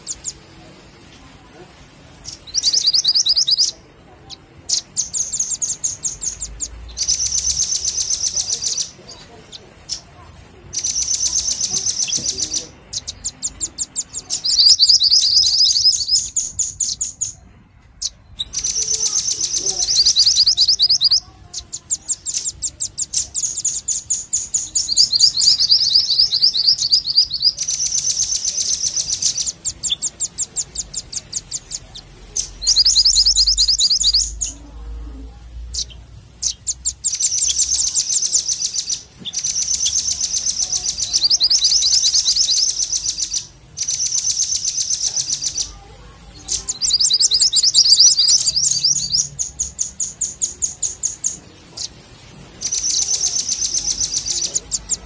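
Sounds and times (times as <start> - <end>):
birds trilling rapid chirps: 0.0 - 55.0.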